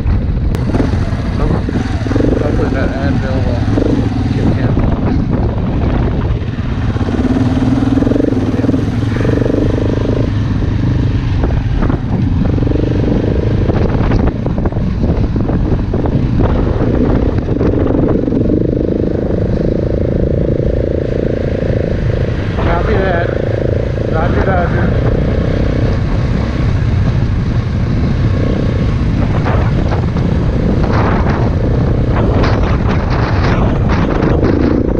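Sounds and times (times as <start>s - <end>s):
knocks and rattles of bike: 0.0s - 23.0s, 23.6s - 34.9s
motorcycle engine revving: 0.0s - 34.9s
wind buffeting: 0.0s - 34.9s.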